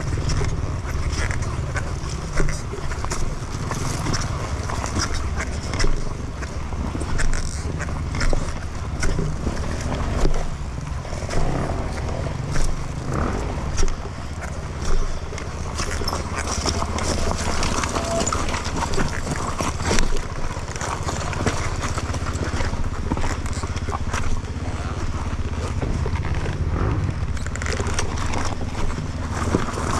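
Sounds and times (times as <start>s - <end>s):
dirt bike engine at low revs: 0.0s - 29.9s
knocks and clatter: 0.0s - 29.9s.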